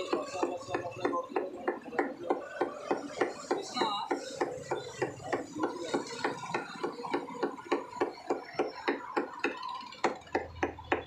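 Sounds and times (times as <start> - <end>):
cleaver chopping on wooden block: 0.1 - 11.0.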